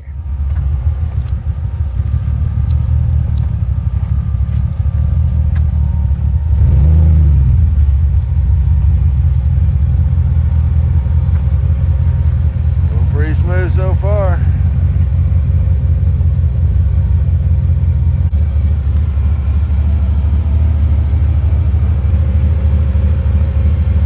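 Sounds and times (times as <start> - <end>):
pickup truck engine rumbling: 0.0 - 24.0.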